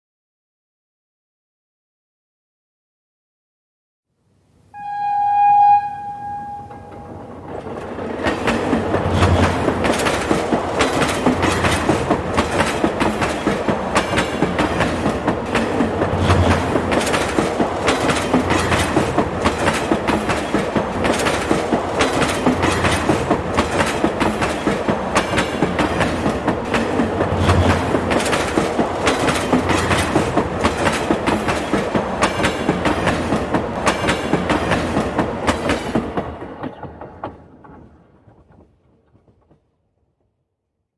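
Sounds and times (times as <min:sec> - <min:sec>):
train rumble: 0:04.8 - 0:39.7
train wheels clicking over rail joints: 0:06.7 - 0:39.8.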